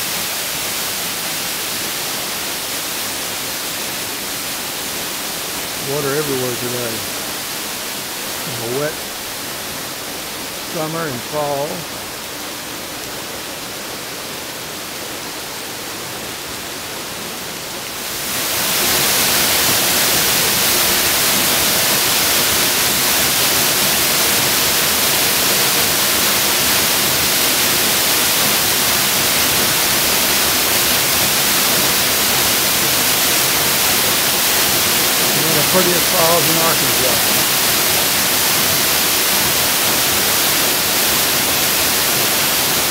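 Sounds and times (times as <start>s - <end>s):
waterfall splashing onto rocks: 0.0s - 42.9s.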